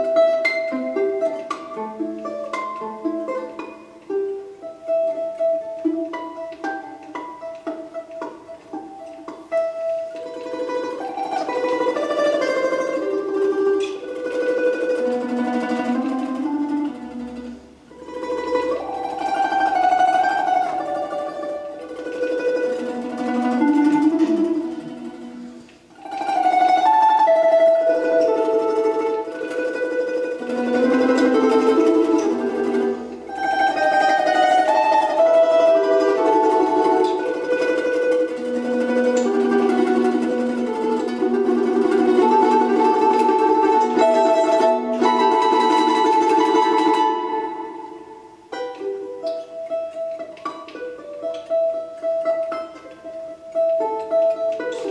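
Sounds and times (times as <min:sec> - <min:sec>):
plucked string melody: 0:00.0 - 0:54.9.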